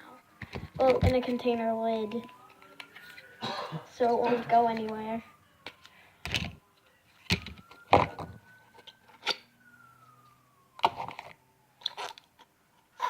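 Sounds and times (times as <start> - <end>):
faint siren: 0.0 - 13.0.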